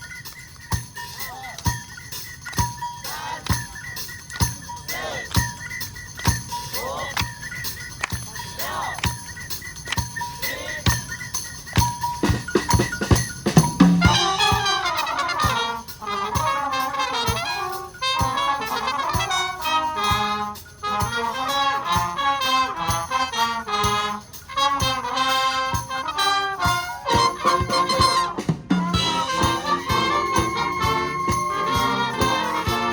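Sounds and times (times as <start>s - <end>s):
brass and woodwinds melody: 0.0s - 32.9s
percussion steady beat: 0.0s - 32.9s.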